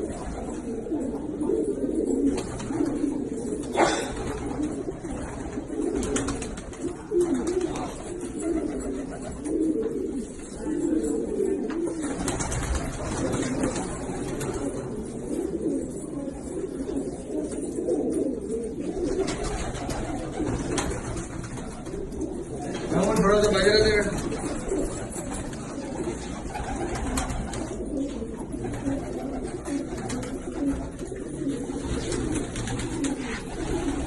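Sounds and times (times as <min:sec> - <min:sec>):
pigeons cooing: 0:00.0 - 0:34.0.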